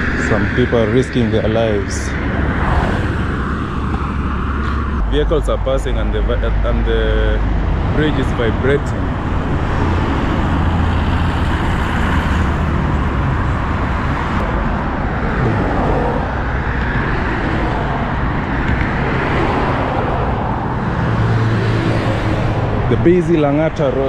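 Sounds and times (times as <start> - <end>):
busy road traffic: 0.0 - 24.0.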